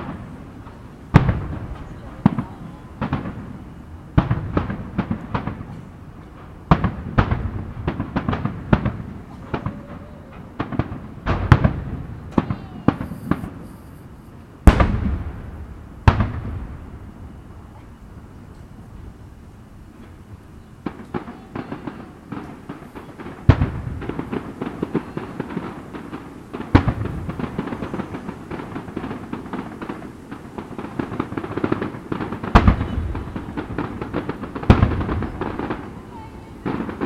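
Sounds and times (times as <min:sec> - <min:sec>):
fireworks booms: 0:00.0 - 0:37.0
fireworks crackling: 0:00.0 - 0:37.0.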